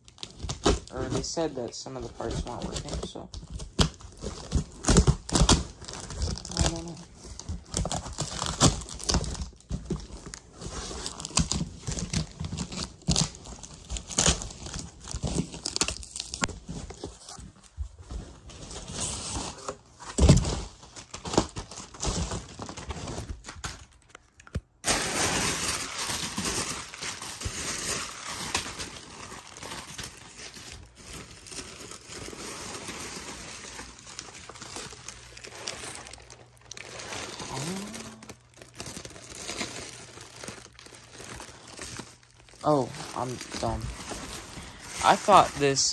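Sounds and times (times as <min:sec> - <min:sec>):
packing paper crinkling and rustling: 0:00.0 - 0:45.9.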